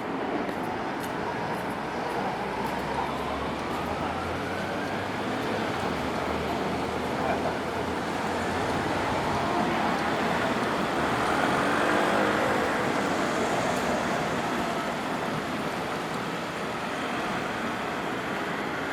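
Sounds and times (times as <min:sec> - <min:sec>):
road traffic: 0:00.0 - 0:18.9.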